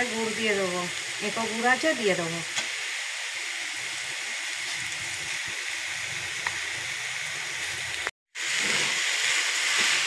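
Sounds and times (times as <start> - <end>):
coconut sizzling in a wok: 0.0 - 10.0.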